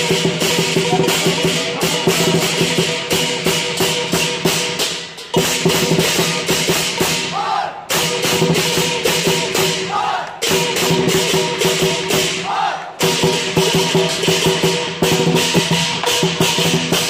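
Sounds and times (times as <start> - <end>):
cymbals clashing: 0.0 - 17.0
large drum beaten rapidly: 0.0 - 17.0.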